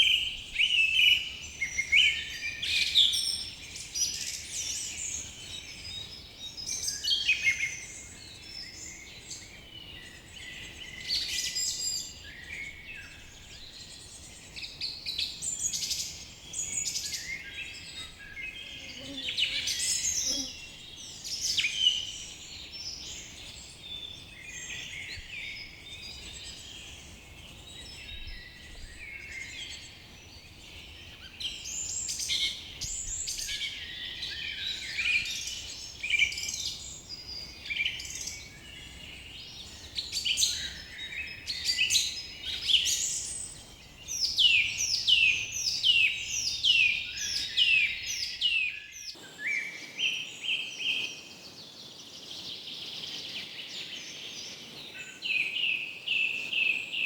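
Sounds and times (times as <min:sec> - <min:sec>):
forest birds chirping and trilling: 0:00.0 - 0:57.0.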